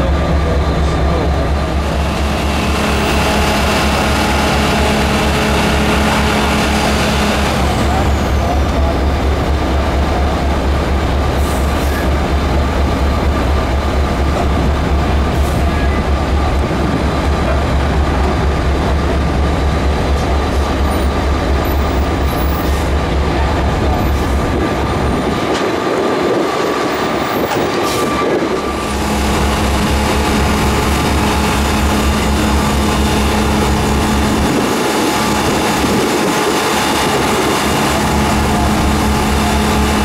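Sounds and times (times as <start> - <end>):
diesel engine throbbing: 0.0 - 40.0.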